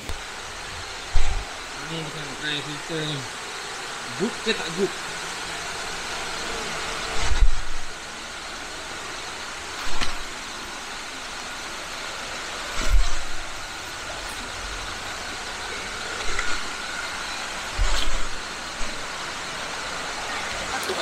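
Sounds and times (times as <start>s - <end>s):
stream flowing: 0.0s - 21.0s.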